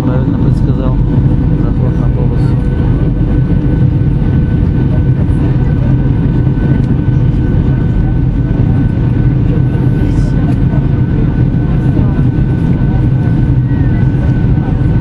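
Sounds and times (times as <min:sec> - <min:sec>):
jet engines and airflow roar: 0:00.0 - 0:15.0.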